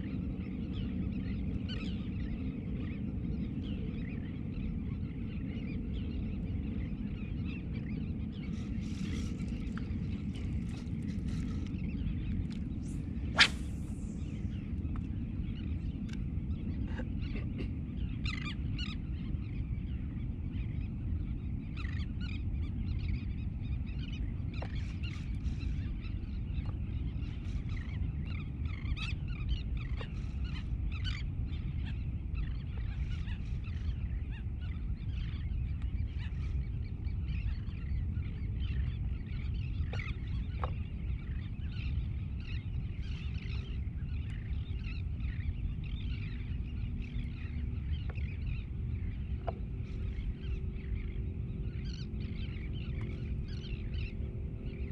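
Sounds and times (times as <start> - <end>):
steady low rumble: 0.0 - 54.9
birds calling: 5.0 - 19.1, 23.1 - 54.9.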